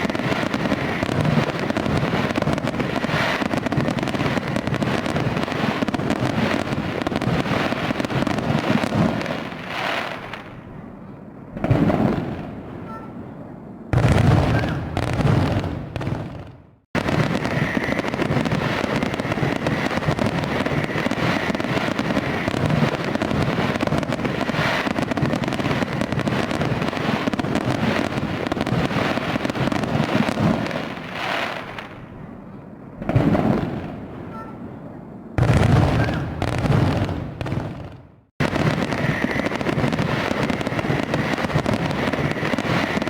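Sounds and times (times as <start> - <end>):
fireworks bangs and crackling: 0.0 - 43.0.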